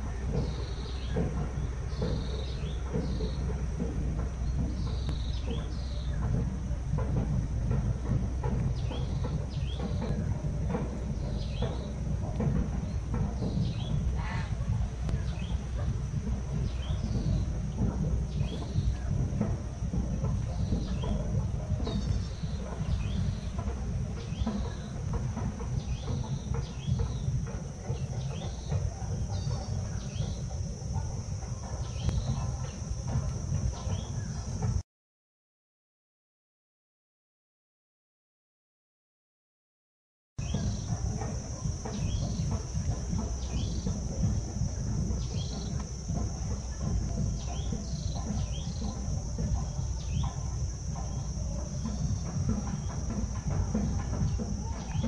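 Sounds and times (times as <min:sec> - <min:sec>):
high-pitched insect drone: 0:00.0 - 0:34.8, 0:40.4 - 0:55.0
steady low rumble: 0:00.0 - 0:34.8, 0:40.4 - 0:55.0.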